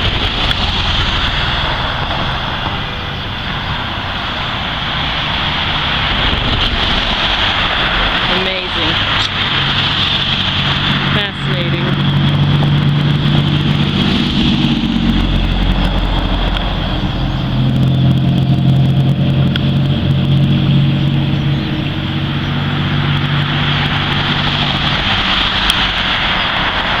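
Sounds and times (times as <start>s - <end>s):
flock of birds chattering: 0.0s - 27.0s
vehicle engine humming: 0.0s - 27.0s.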